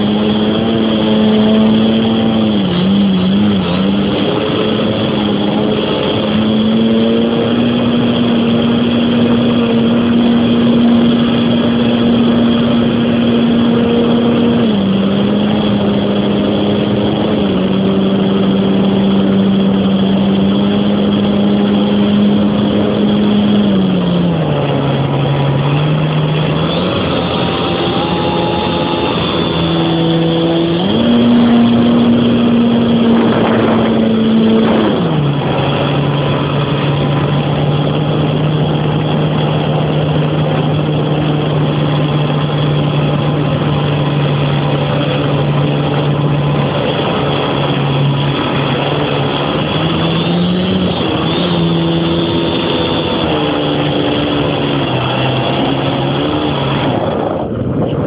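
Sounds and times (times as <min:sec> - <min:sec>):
model plane motor drone: 0:00.0 - 0:58.0
rush of noise: 0:00.0 - 0:58.0.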